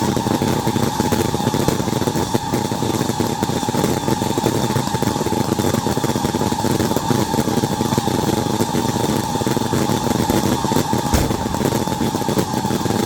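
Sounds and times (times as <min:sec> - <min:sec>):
fireworks crackling: 0:00.0 - 0:04.7, 0:07.0 - 0:13.0.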